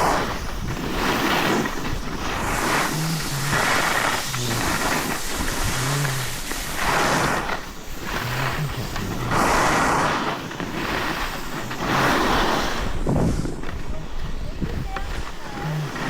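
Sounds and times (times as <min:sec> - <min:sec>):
skis carving on packed snow: 0:00.0 - 0:16.0.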